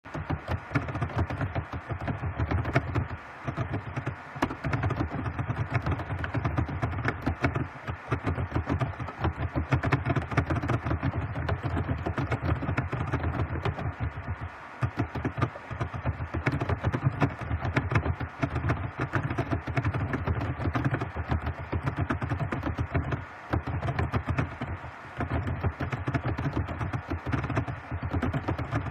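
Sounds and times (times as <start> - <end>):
fast typing on computer keyboard: 0.1 - 28.9.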